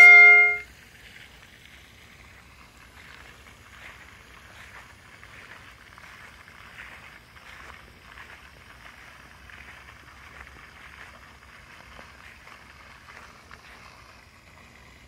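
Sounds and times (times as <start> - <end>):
outdoor hiss: 0.3 - 15.0.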